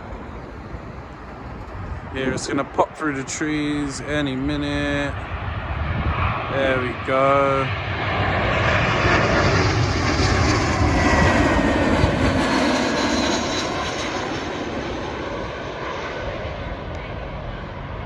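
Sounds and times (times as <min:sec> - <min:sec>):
faint engine whine: 0:00.0 - 0:18.0
jet plane passing overhead: 0:00.0 - 0:18.0.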